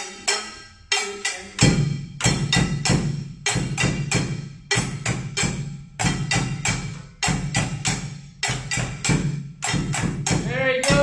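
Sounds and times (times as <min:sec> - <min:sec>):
pots and buckets struck with sticks: 0:00.0 - 0:11.0.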